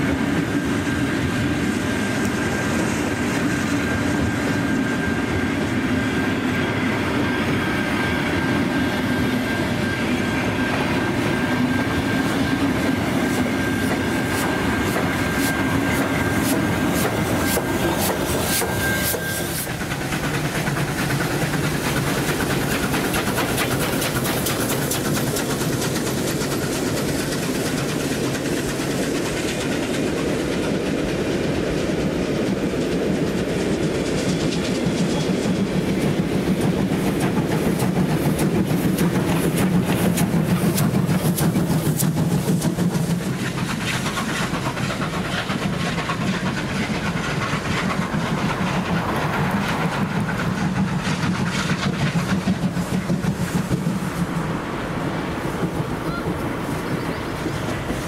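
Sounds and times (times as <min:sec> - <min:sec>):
train wheels clicking over rail joints: 0:00.0 - 0:58.0.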